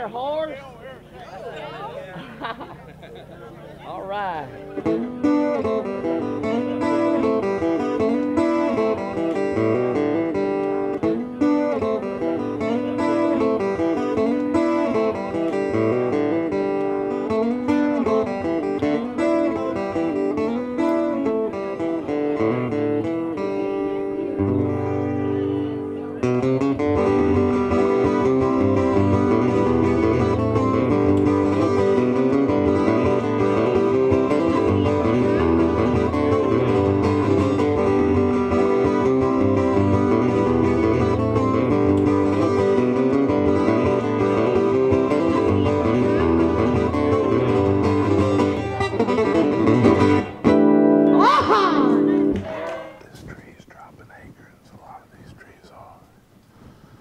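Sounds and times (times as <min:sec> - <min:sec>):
guitar music picked and strummed: 0:04.1 - 0:53.0.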